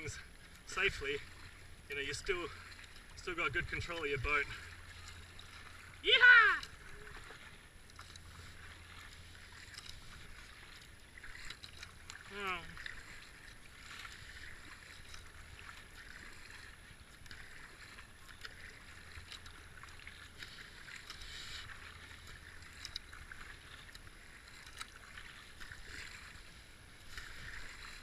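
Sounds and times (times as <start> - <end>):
paddle splashing in water: 0.0 - 28.0
water swishing along a hull: 0.0 - 28.0.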